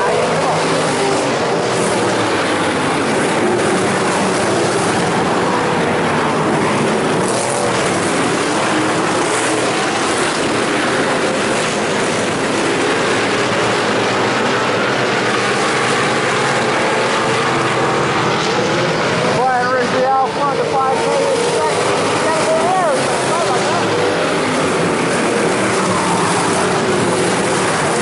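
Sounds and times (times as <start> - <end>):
stock cars racing: 0.0 - 28.0.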